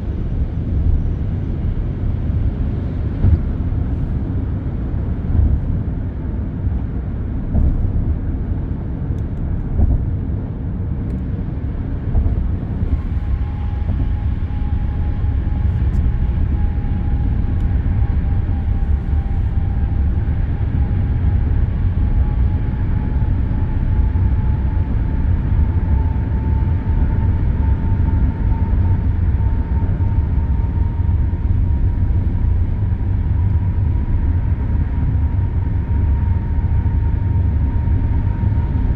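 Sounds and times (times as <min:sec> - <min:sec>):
traffic rumble: 0:00.0 - 0:38.9.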